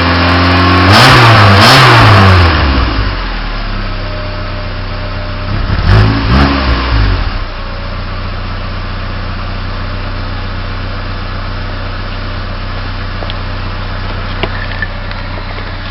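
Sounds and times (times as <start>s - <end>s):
car engine revving and idling: 0.0s - 15.9s.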